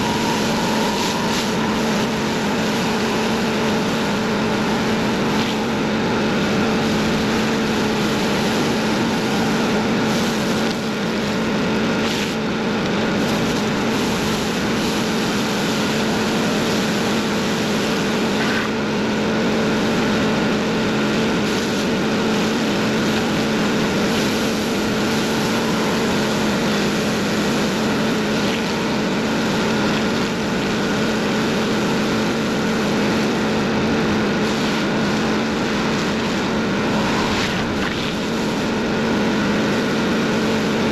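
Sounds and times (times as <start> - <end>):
high-pressure spray hissing: 0.0 - 40.9
pressure washer engine running: 0.0 - 40.9.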